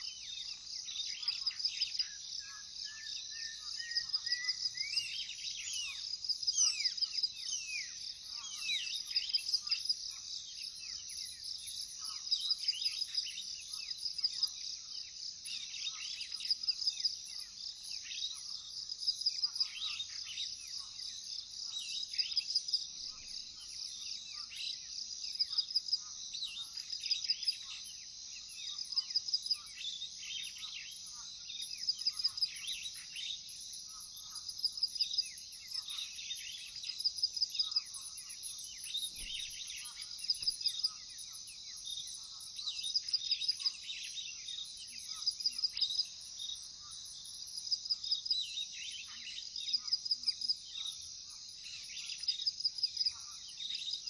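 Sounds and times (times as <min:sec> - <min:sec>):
crickets chirping in pulses: 0:00.0 - 0:54.0.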